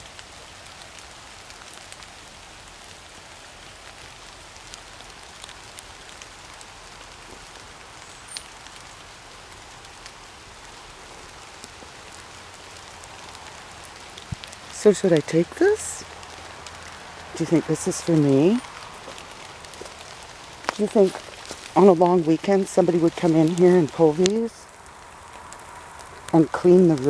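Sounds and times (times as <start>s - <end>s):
raindrops ticking: 0.0s - 27.0s
steady rain falling: 0.0s - 27.0s.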